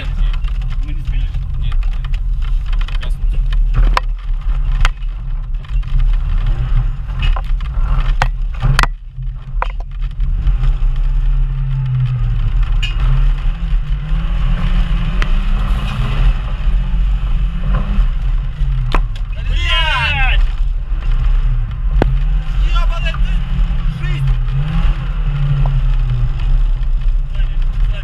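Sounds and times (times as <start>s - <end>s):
off-road vehicle engine revving: 3.0s - 28.0s.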